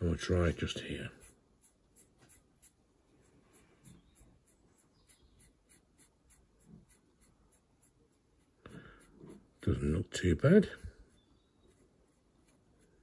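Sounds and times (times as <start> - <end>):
paintbrush scratching on plastic: 0.0 - 13.0.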